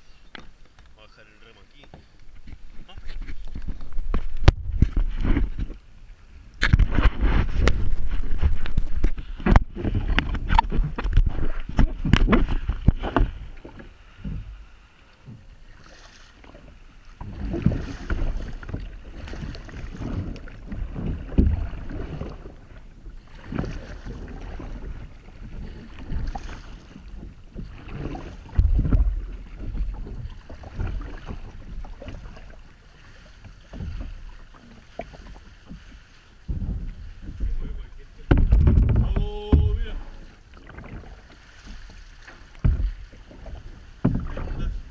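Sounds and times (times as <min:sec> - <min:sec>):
sea water sloshing and splashing: 0:00.0 - 0:44.9.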